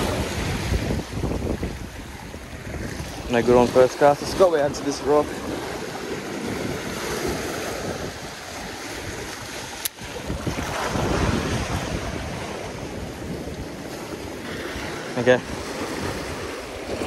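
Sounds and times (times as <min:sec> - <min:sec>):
small waves washing over rocks: 0:00.0 - 0:17.0
wind buffeting microphone: 0:00.0 - 0:17.0.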